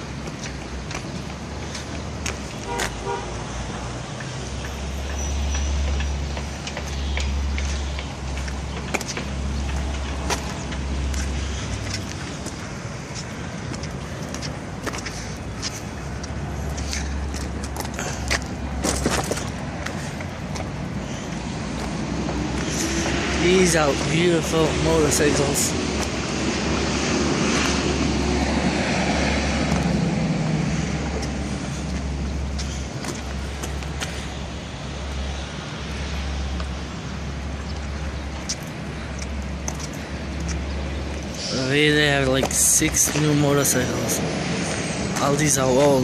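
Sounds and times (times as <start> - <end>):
low rumble of road traffic: 0.0 - 46.0.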